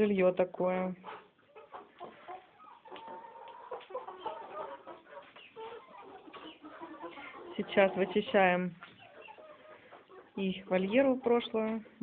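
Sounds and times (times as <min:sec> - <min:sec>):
young chickens clucking: 0:00.0 - 0:12.0.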